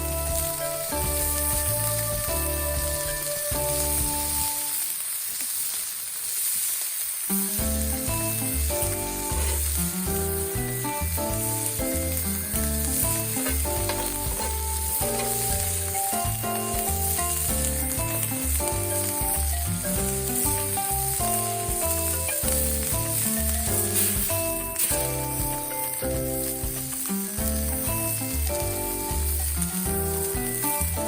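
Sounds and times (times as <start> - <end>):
background music: 0.0 - 4.8, 7.4 - 31.0
steak sizzling over campfire: 0.0 - 31.0.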